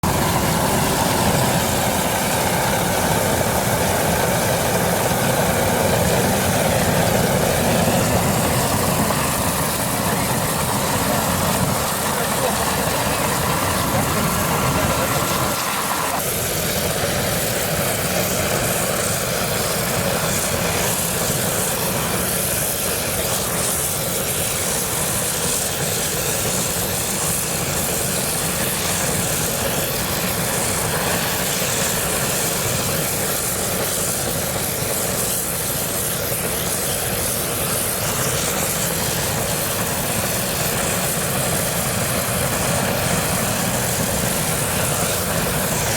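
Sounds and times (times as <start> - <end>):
oil burner running: 0.0 - 45.9.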